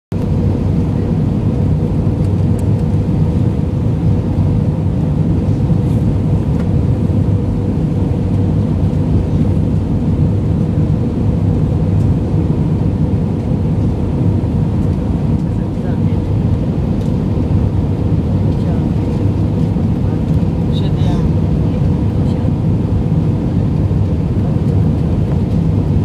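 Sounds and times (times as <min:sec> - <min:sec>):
jet engines and rushing air: 0:00.1 - 0:26.0.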